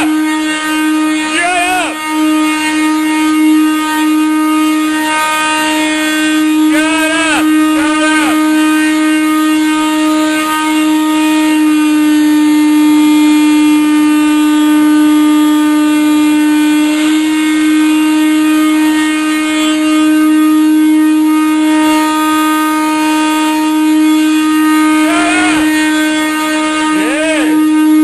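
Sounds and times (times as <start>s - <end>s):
loud single-pitched heating tone: 0.0s - 28.0s.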